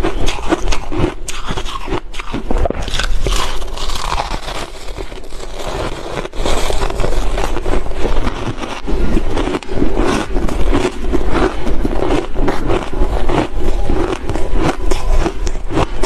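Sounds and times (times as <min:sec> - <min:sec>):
ice crunching in mouth: 0:00.0 - 0:16.0.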